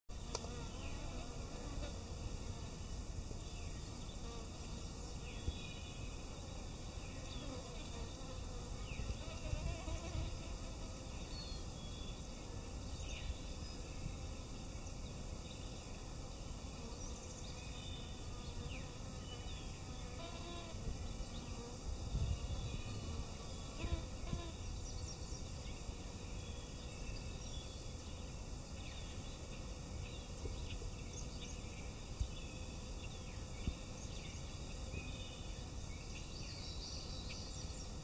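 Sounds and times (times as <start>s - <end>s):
flying insects buzzing: 0.1s - 38.0s.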